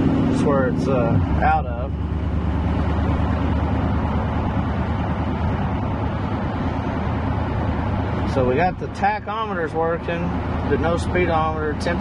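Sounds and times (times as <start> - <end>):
car engine running smoothly: 0.0 - 12.0
road and tyre noise: 0.0 - 12.0.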